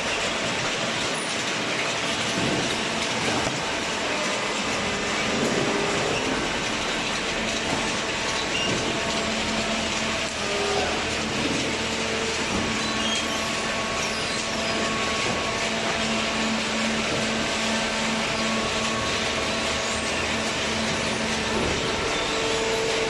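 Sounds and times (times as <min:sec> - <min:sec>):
hydraulic baler humming: 0:00.0 - 0:23.0.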